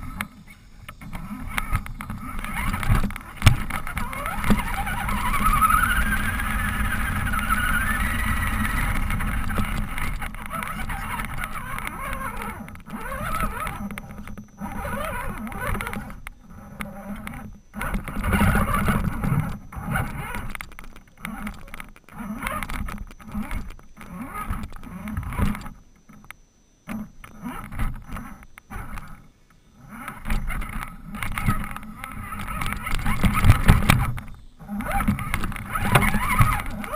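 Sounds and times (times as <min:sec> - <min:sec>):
toy car motor whining: 0:00.0 - 0:26.2, 0:26.9 - 0:36.9.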